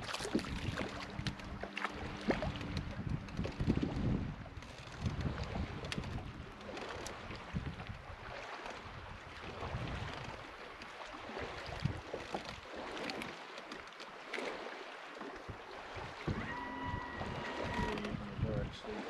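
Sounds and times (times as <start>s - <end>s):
lapping water: 0.0s - 4.1s, 4.8s - 19.0s
wind buffeting microphone: 0.0s - 10.6s, 11.4s - 12.6s, 15.4s - 19.0s.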